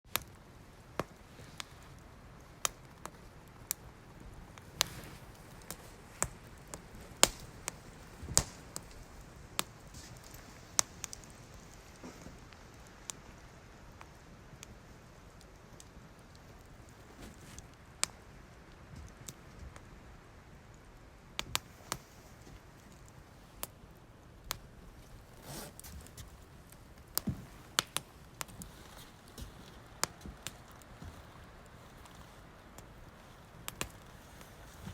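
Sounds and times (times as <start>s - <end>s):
wood fire crackling: 0.1s - 34.9s
soft rush of noise: 0.3s - 34.9s
faint hiss: 0.4s - 34.9s.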